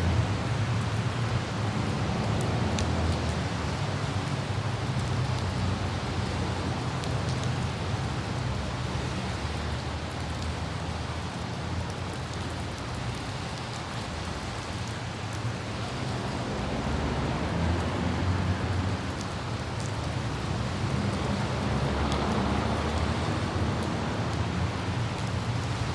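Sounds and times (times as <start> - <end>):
rain hiss: 0.0 - 25.9
raindrop ticks: 0.0 - 25.9
road rumble: 0.0 - 25.9.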